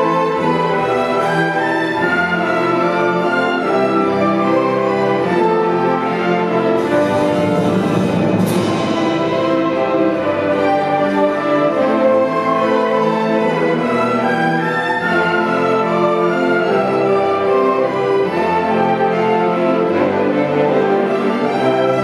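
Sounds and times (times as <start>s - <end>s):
symphony orchestra playing: 0.0s - 22.0s.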